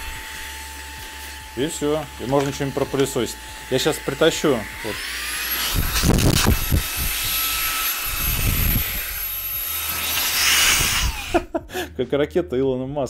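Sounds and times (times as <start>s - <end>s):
vacuum cleaner motor whine: 0.0s - 11.4s.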